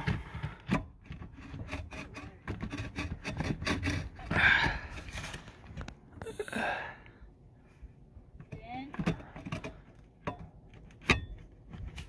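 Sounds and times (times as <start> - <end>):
vent pipe scraping and knocking: 0.0 - 6.4, 8.2 - 12.0.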